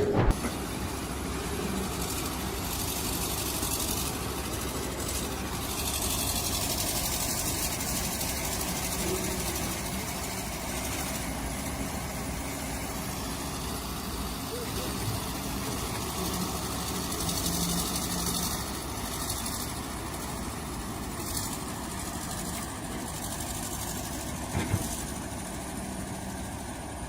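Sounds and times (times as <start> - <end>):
heavy machine engine running: 0.0 - 27.0.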